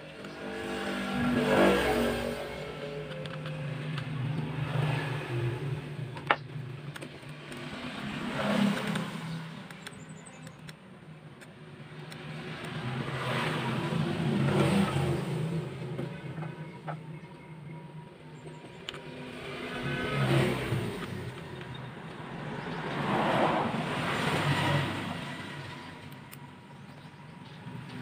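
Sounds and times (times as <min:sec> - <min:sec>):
motor vehicles passing: 0:00.0 - 0:28.0.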